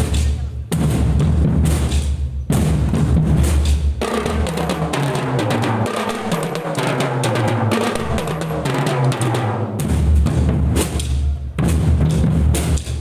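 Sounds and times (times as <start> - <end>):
snare and tenor drum strokes: 0.0 - 13.0.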